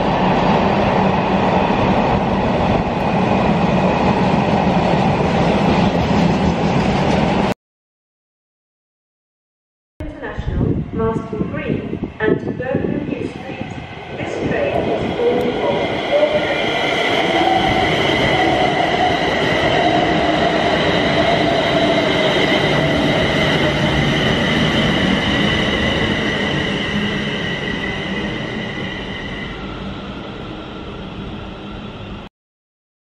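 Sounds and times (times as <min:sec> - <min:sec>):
electric train passing: 0:00.0 - 0:07.5, 0:10.1 - 0:32.3.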